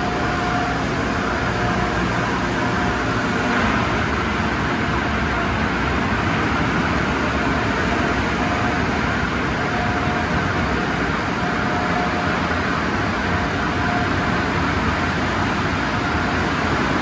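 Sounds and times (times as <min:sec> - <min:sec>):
car wash equipment rushing: 0:00.0 - 0:17.0.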